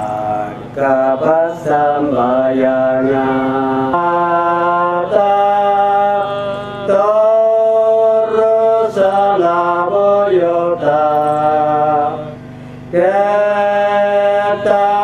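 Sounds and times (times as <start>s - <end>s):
man singing chant-like melody: 0.0s - 15.0s.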